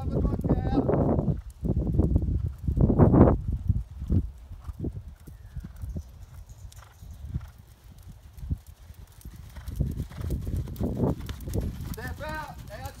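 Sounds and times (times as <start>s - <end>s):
hoofbeats on dirt: 0.0s - 13.0s.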